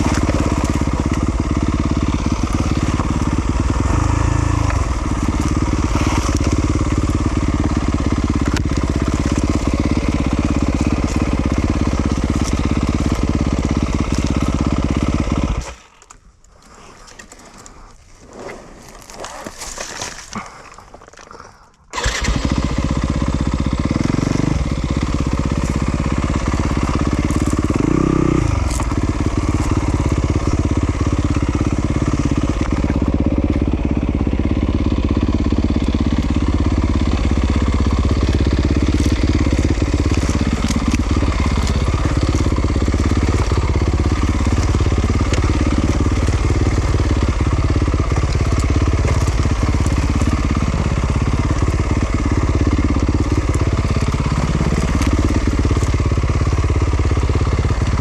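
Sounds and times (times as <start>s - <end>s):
motorcycle engine revving: 0.0s - 15.8s, 21.9s - 58.0s.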